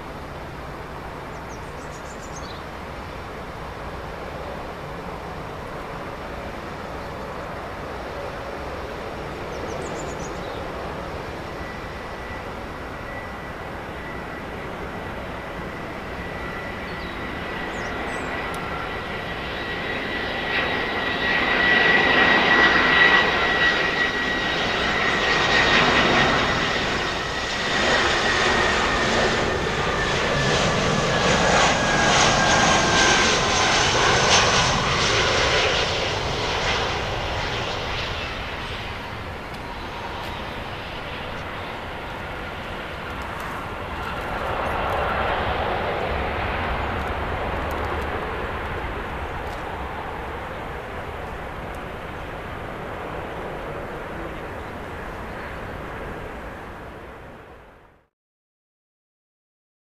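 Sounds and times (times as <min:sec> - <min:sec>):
jet engine whine: 0:00.0 - 0:58.1.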